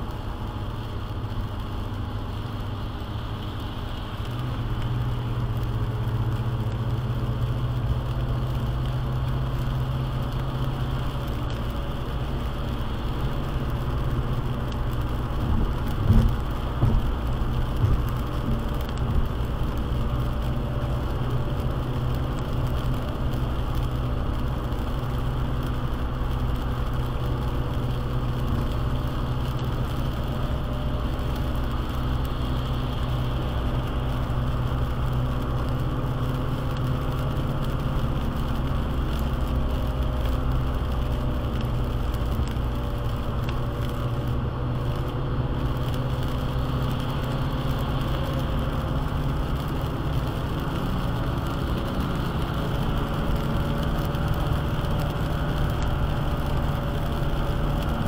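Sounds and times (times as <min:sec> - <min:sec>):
car engine and tyres on wet road: 0:00.0 - 0:58.0.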